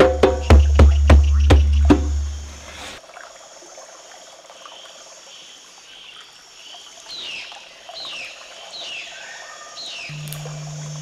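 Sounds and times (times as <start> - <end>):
insects and frogs calling: 0.0 - 11.0.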